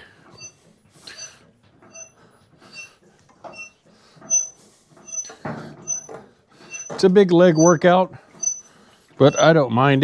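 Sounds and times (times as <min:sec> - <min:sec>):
hydraulic foot pump squeaking: 0:00.0 - 0:09.8.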